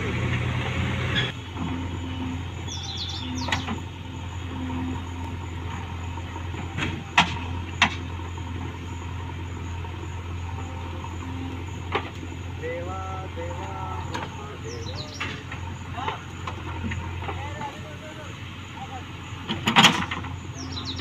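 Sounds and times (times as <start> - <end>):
diesel engines running: 0.0 - 21.0
birds chirping: 1.2 - 21.0.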